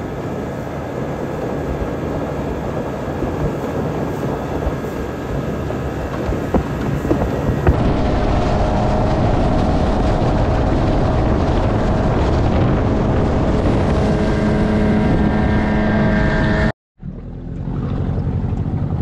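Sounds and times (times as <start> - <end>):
wind: 0.0 - 19.0
outboard motor running: 0.8 - 19.0.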